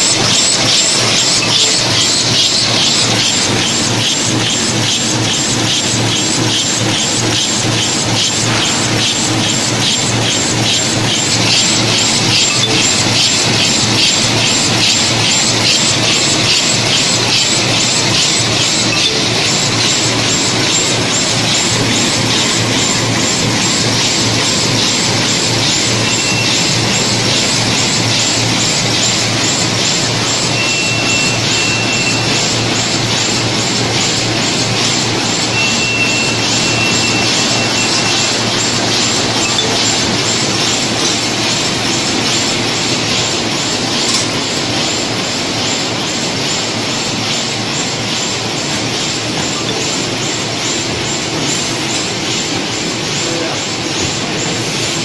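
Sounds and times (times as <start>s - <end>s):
cartoning machine clatter: 0.0s - 55.0s.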